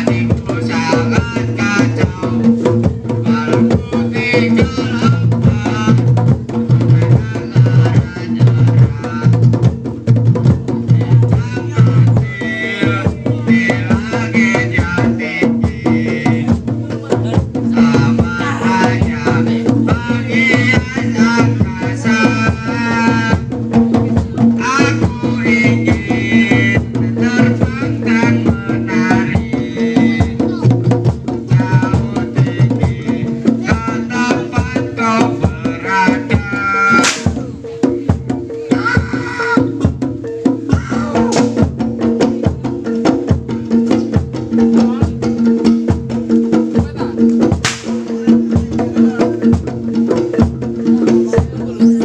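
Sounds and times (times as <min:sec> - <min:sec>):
fast hand drum strokes: 0:00.0 - 0:52.0.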